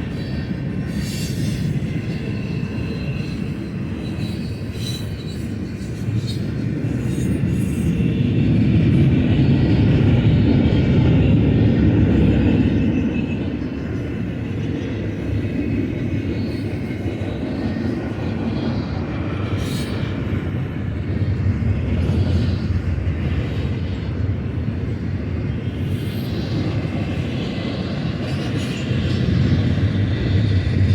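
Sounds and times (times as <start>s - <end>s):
freight train wheels rumbling on rail: 0.0s - 30.9s.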